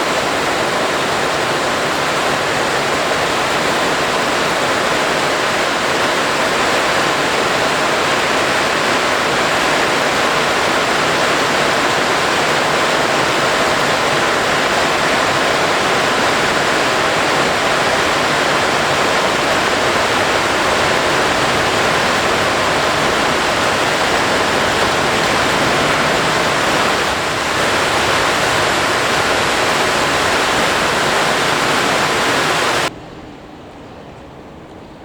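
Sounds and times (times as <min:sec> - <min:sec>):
loud rushing noise: 0:02.6 - 0:33.4.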